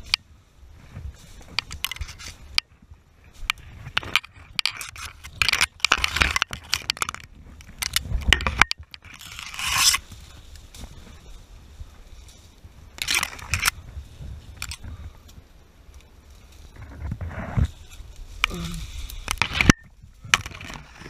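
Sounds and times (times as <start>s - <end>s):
branches scraping past: 0.0s - 21.0s
twigs crackling and snapping: 0.0s - 21.0s.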